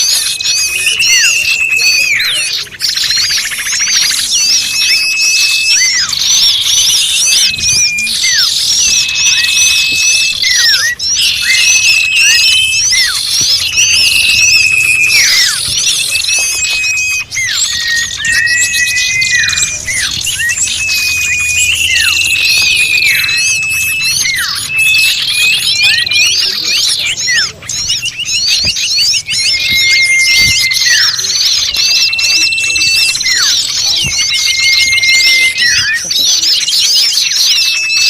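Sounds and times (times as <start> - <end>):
small birds chirping: 0.0 - 38.0
whistled notes sliding down: 0.0 - 38.0.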